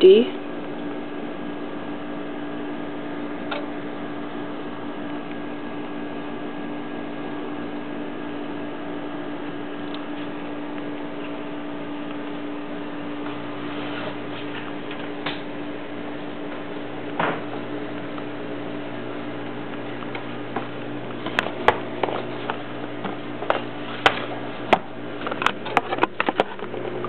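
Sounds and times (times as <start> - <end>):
countertop oven humming: 0.0 - 27.0.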